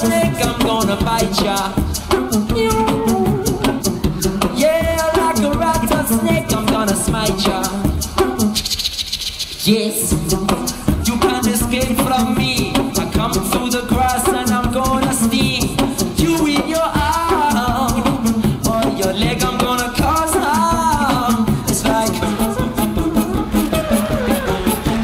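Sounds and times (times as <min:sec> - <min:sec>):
man singing: 0:00.0 - 0:08.6, 0:09.6 - 0:25.0
beatbox vocal percussion: 0:00.0 - 0:25.0.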